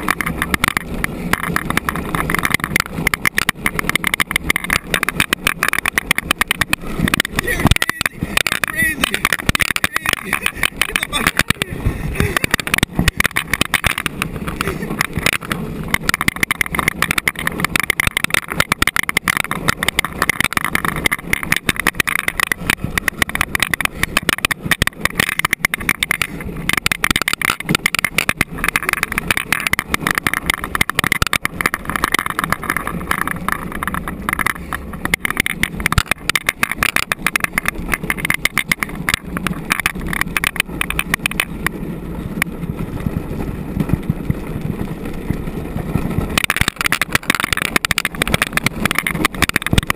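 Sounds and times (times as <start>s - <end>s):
cart wheels rumbling on asphalt: 0.0s - 49.9s.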